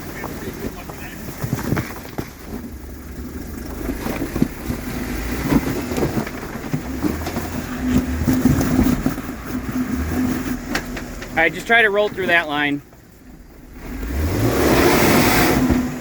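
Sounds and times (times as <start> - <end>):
car engine pulling under load: 0.0 - 16.0.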